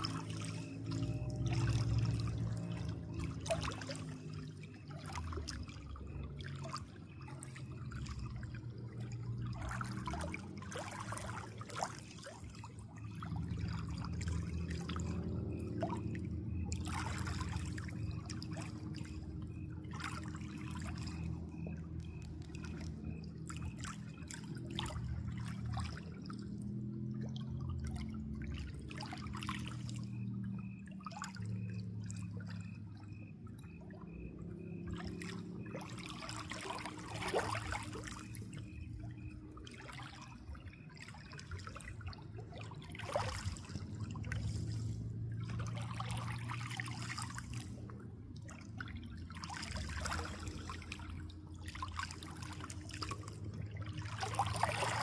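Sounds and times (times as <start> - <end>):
low constant hum: 0.0 - 55.0
water splashing: 0.0 - 55.0
water trickling: 0.0 - 55.0.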